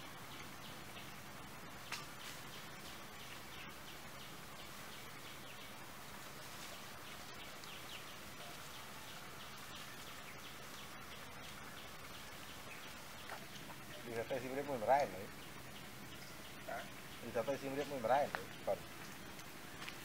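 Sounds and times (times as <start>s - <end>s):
faint bird chirps: 0.0s - 19.8s
outdoor hiss: 0.0s - 20.0s.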